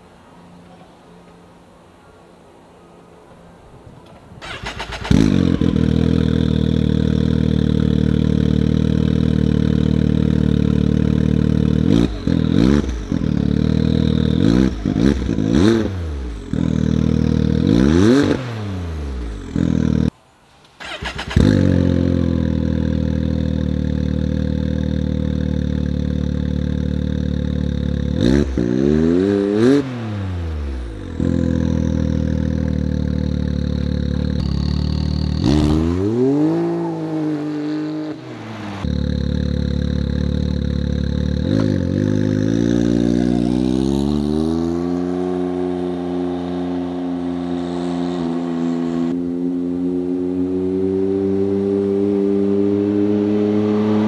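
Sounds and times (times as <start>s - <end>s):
engine idling and revving: 4.4s - 20.2s, 20.8s - 54.0s.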